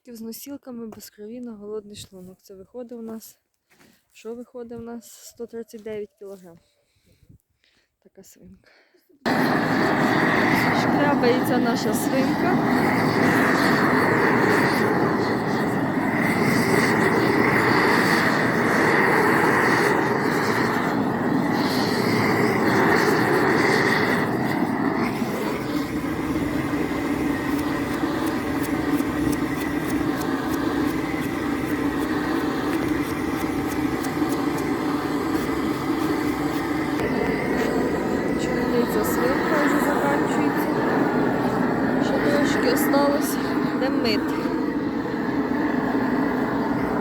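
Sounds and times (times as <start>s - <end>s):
loud rushing noise: 9.3s - 47.0s.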